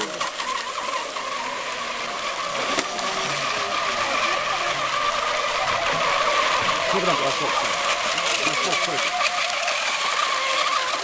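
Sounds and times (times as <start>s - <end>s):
model boat engines whining: 0.0s - 11.0s.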